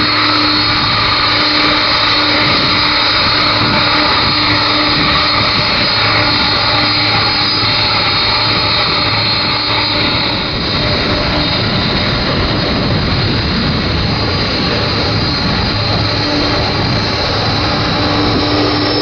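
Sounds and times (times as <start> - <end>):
high-pitched jet whine: 0.0 - 19.0
loud steady jet noise: 0.0 - 19.0.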